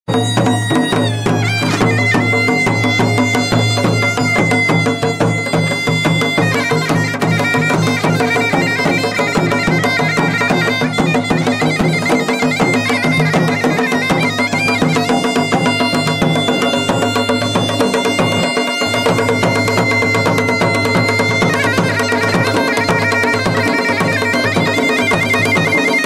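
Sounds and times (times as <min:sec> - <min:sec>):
bagpipe playing a folk tune: 0:00.1 - 0:26.0.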